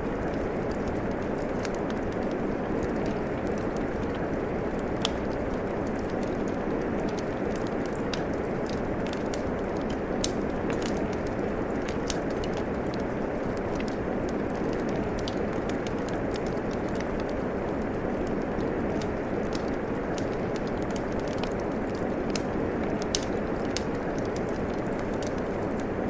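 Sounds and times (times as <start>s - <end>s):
rain falling: 0.0s - 26.0s
wood fire crackling and popping: 0.0s - 26.0s.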